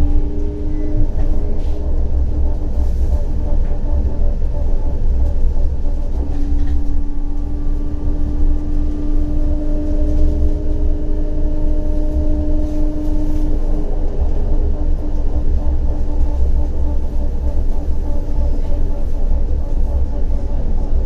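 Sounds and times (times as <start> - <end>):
higher humming tone: 0.0 - 21.0
steady humming tone: 0.0 - 21.0
tram rumbling: 0.0 - 21.0.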